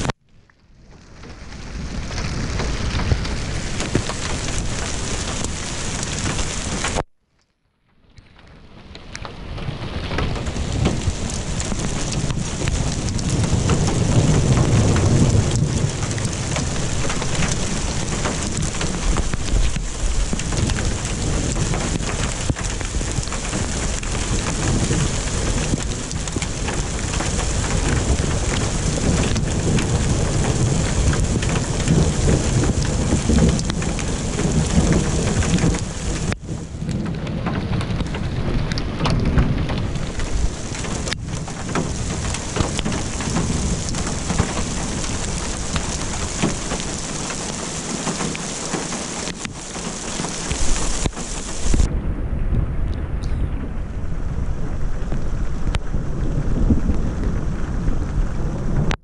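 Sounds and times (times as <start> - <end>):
heavy rain falling: 0.0 - 7.1, 7.8 - 59.0
thunder rumbling: 0.7 - 7.0, 8.4 - 59.0.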